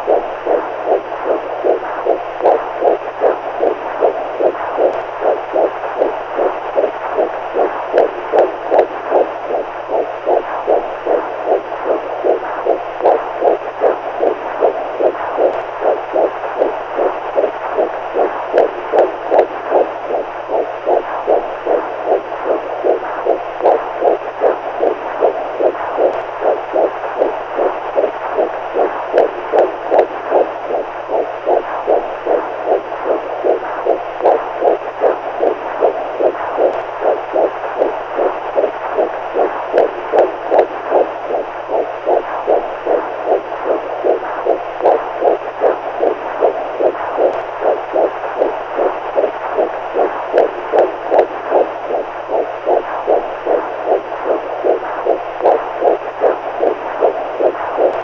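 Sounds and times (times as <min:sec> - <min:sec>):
faint steady hum: 0:00.0 - 0:58.0
heartbeat: 0:00.0 - 0:58.0.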